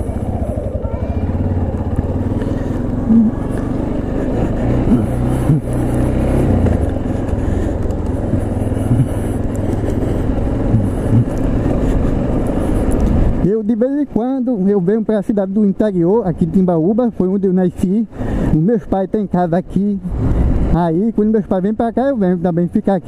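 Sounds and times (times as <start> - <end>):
motorcycle engine running: 0.0 - 22.7.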